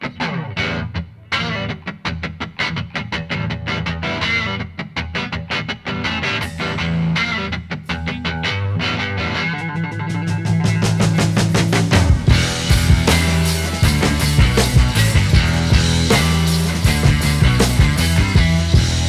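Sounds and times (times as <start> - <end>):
rock music with distorted guitar: 0.0 - 19.0.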